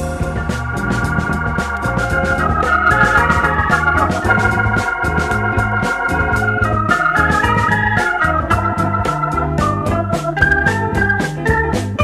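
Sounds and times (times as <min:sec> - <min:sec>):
bass line: 0:00.0 - 0:12.0
organ-like keyboard melody: 0:00.0 - 0:12.0
steady drum beat: 0:00.0 - 0:12.0.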